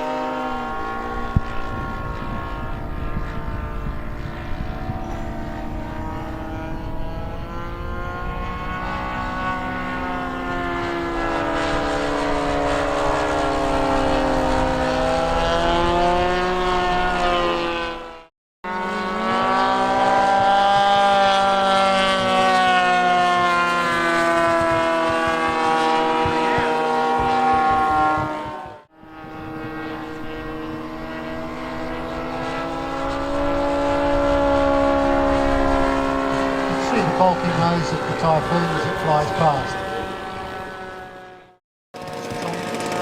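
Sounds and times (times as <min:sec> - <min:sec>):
model airplane engine flying past: 0:00.0 - 0:43.0.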